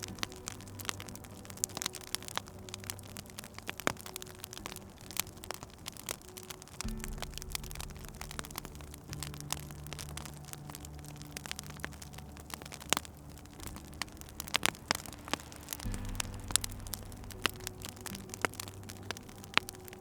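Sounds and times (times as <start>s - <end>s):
low steady drone: 0.0s - 20.0s
wood fire crackling: 0.0s - 20.0s.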